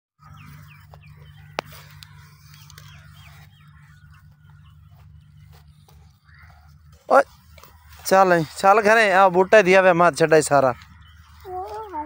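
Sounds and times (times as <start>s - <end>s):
birds chirping: 0.2s - 12.0s
steady low hum: 0.2s - 12.0s.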